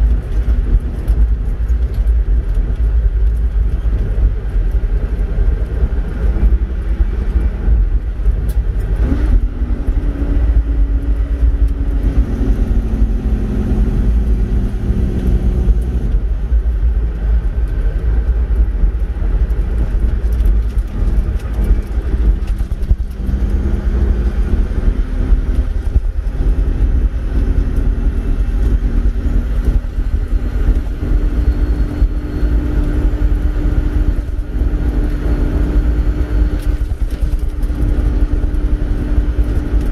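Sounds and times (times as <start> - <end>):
tyres rumbling on gravel: 0.0 - 32.4
truck engine running: 0.0 - 39.9.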